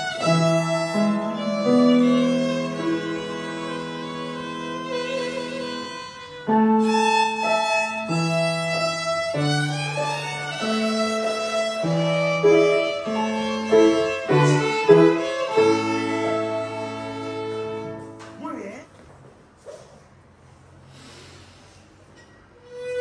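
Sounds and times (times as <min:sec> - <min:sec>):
violins bowing a melody: 0:00.0 - 0:18.4, 0:22.6 - 0:23.0
piano accompaniment: 0:00.0 - 0:18.6.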